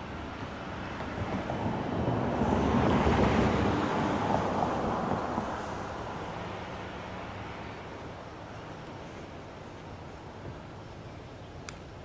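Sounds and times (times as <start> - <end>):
wind gusting on microphone: 0.0 - 12.0.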